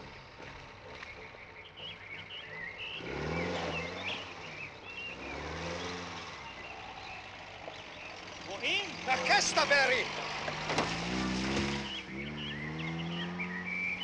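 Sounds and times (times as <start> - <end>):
birds chirping: 0.0 - 14.0
sports car engine approaching: 0.0 - 14.0.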